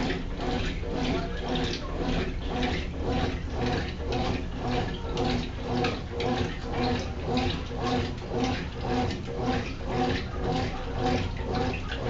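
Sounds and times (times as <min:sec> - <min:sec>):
washing machine motor hum: 0:00.0 - 0:12.0
water sloshing: 0:00.0 - 0:12.0.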